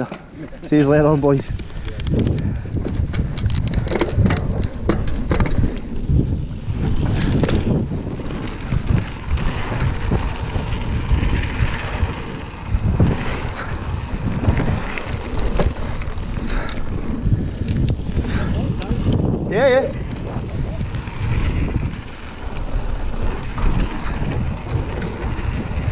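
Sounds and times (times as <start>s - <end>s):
bike clicks and rattles: 0.0s - 25.9s
bike tyres rolling on dirt: 0.0s - 25.9s
wind buffeting microphone: 0.0s - 25.9s.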